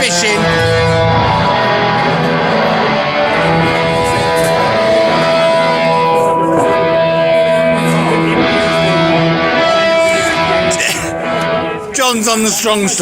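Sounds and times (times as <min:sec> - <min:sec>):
guitar strumming chords: 0:00.0 - 0:12.8.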